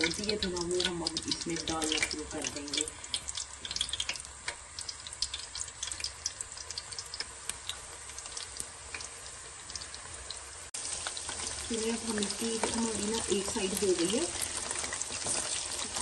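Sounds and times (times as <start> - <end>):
chicken frying in hot oil: 0.0 - 16.0
oil popping and crackling: 0.0 - 16.0.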